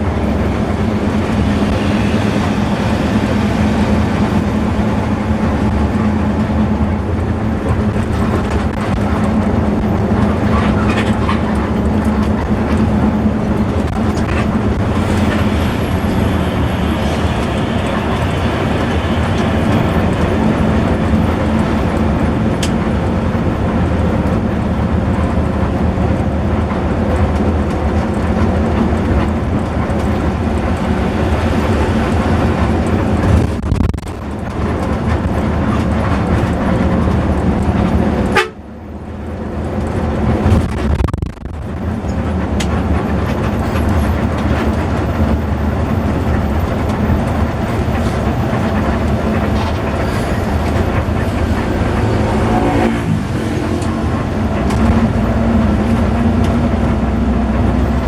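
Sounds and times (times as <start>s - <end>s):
bus engine droning: 0.0s - 58.0s
road noise: 0.0s - 58.0s.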